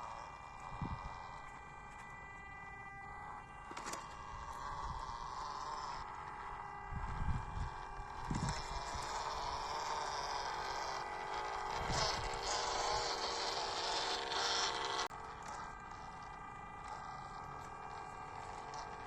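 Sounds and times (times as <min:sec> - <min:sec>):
toy truck motors whining: 0:00.0 - 0:19.0.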